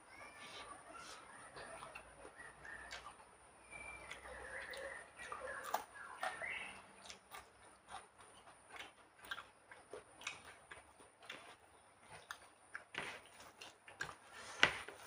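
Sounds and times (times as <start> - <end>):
wet chewing and lip-smacking: 0.4 - 15.0.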